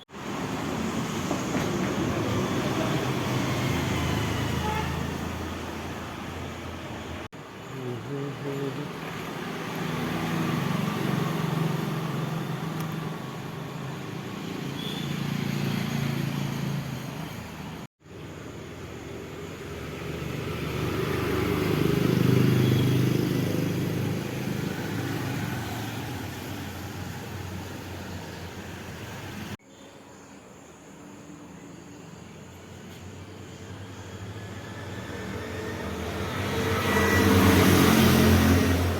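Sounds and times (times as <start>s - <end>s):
road vehicles passing: 0.0s - 29.6s, 32.2s - 38.9s.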